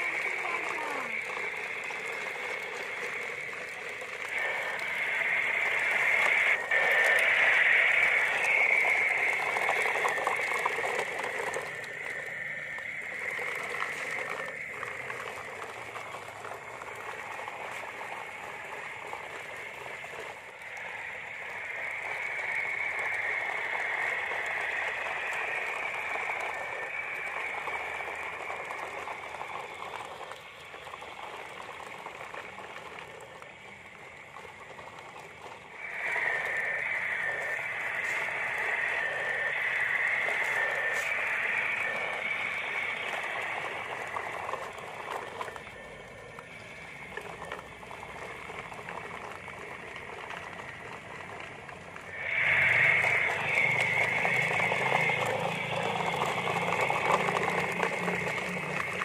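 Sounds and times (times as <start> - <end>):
plastic wheels rolling on concrete: 0.0 - 59.0
small electric motor whirring: 0.0 - 59.0.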